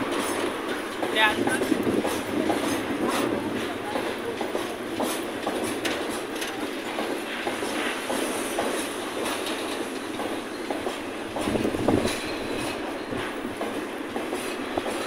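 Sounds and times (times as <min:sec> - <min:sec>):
rolling rumble of freight cars: 0:00.0 - 0:15.0
train wheels clicking over rail joints: 0:00.0 - 0:15.0.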